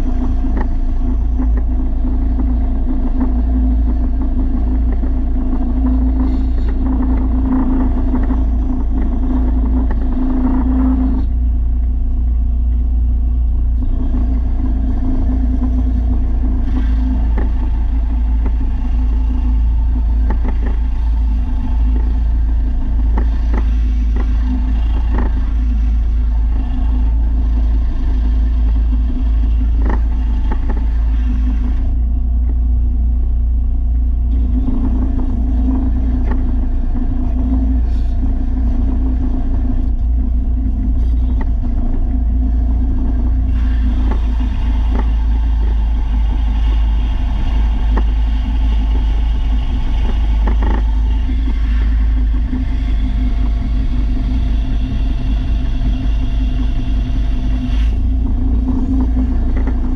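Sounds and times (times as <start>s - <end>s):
motor running with low rumble: 0.0s - 59.9s.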